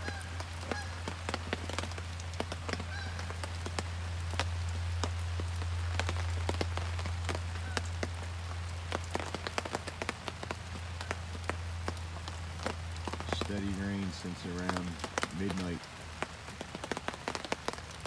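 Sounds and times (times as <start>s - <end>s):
rain falling on tarp: 0.0s - 18.0s
water dripping taps: 0.0s - 18.0s.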